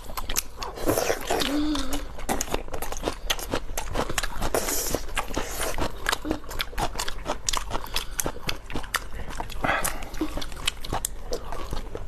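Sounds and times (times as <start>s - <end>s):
crunchy chewing of food: 0.0s - 12.0s.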